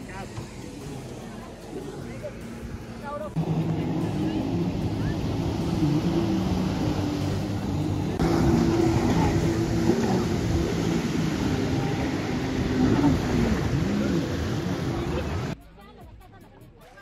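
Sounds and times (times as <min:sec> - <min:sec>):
water and wind noise: 0:00.0 - 0:15.6
watercraft engine running: 0:00.0 - 0:15.6.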